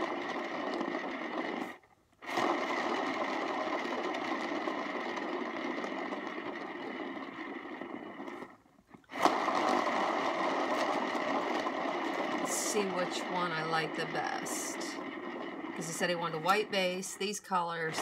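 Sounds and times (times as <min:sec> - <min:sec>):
spinner turntable whirring: 0:00.0 - 0:18.0.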